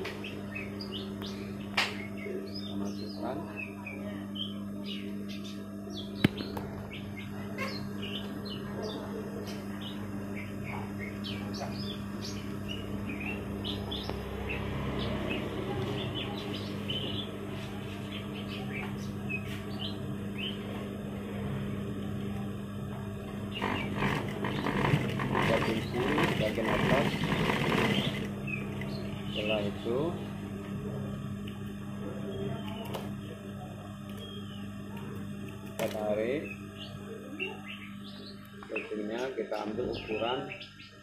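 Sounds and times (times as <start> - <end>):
small birds chirping: 0.0 - 21.0, 22.6 - 30.4, 31.1 - 41.0
steady low hum: 0.0 - 41.0.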